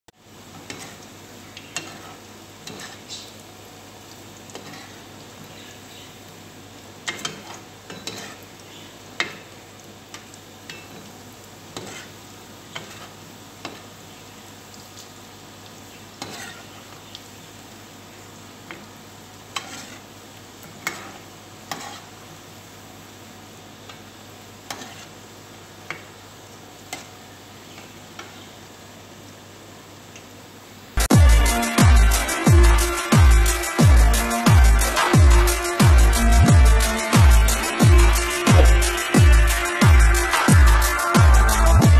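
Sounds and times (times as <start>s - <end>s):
food sizzling in hot oil: 0.2s - 30.1s, 31.0s - 41.9s.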